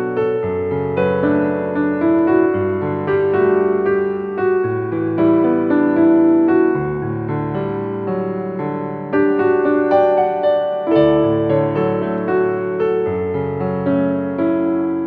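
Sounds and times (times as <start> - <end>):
piano chords and melody: 0.0 - 15.0.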